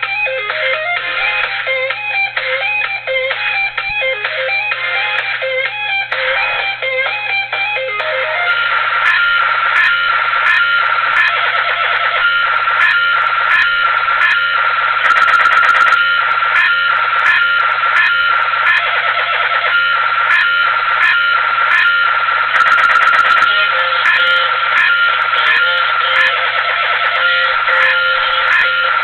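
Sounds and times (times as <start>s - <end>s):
electronic dance music: 0.0s - 29.0s.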